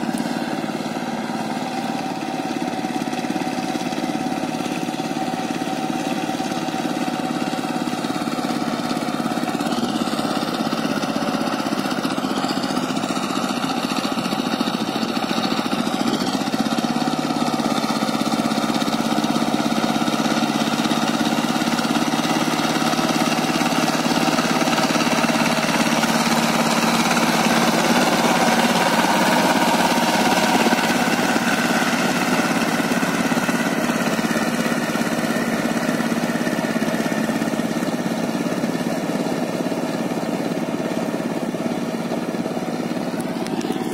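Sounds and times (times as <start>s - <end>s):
rotavator churning through mud: 0.0s - 43.9s
tiller engine running: 0.0s - 43.9s.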